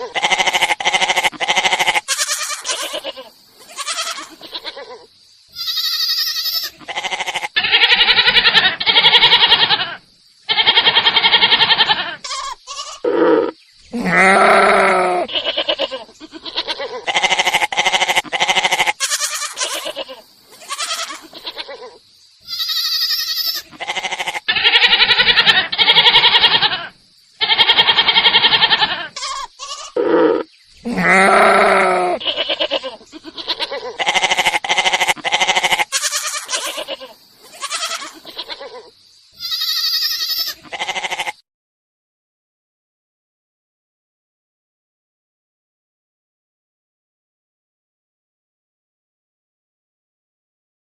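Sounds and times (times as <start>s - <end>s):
goats bleating: 0.0s - 41.4s.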